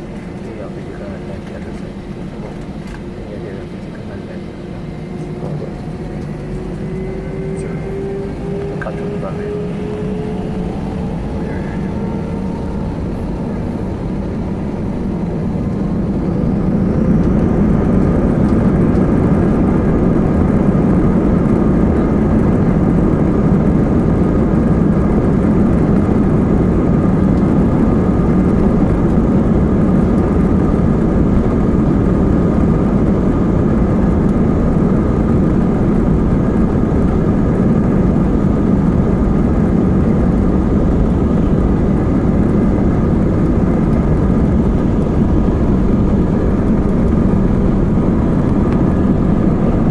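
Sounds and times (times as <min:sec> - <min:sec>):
jet engines spooling up: 0:00.0 - 0:49.9.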